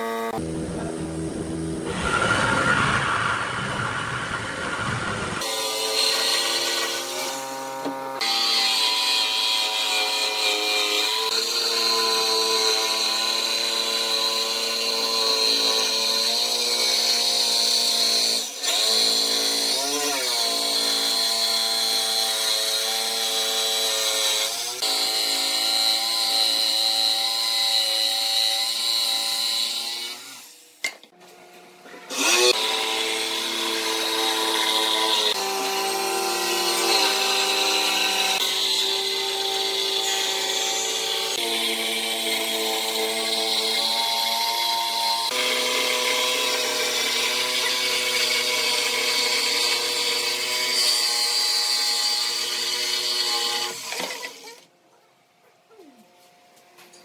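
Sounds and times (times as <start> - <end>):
jigsaw cutting wood: 5.4 - 30.8, 32.0 - 54.7.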